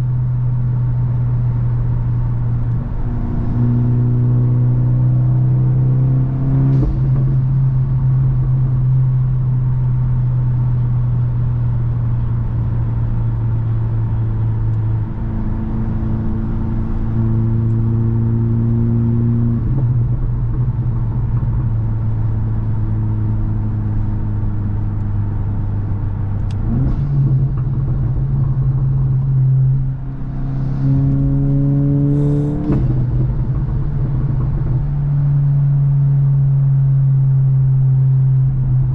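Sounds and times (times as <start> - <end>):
car engine with gear changes: 0.0 - 38.9.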